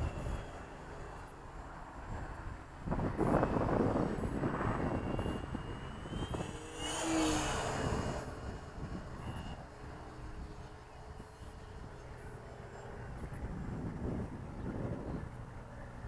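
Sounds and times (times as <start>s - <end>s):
model airplane motor whining: 0.0s - 16.0s
wind noise on microphone: 0.0s - 16.0s.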